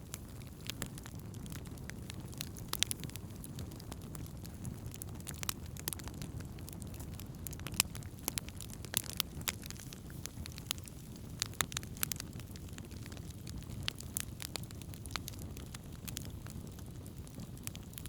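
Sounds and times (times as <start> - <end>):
campfire pops and crackles: 0.0 - 18.0
low rumble of flames: 0.0 - 18.0.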